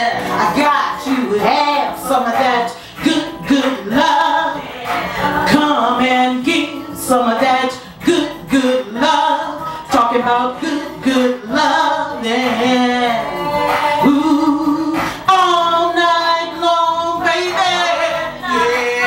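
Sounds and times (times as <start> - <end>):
backing music: 0.0 - 19.0
woman singing: 0.0 - 19.0.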